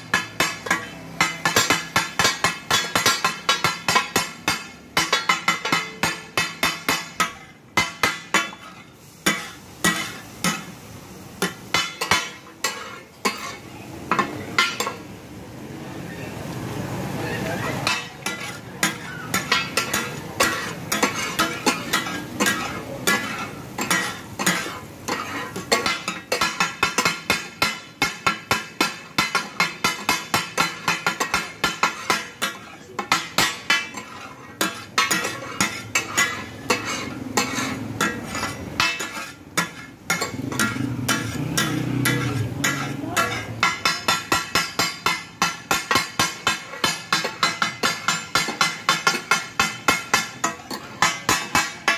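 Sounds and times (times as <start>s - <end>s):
metal spatulas clanking on griddle: 0.0s - 15.2s, 17.1s - 51.9s.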